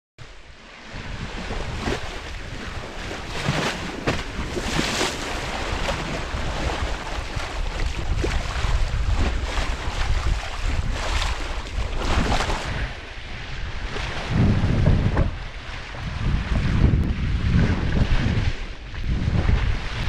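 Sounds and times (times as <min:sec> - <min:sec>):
sea water rushing and splashing: 0:00.2 - 0:20.0
wind buffeting microphone: 0:00.2 - 0:20.0.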